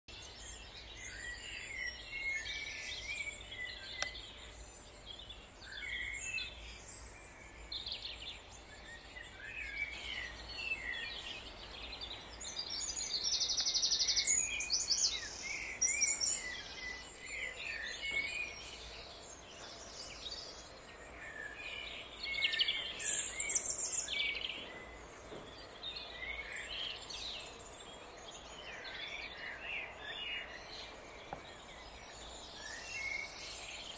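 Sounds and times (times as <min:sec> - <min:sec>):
songbirds chirping and trilling: 0:00.1 - 0:33.9.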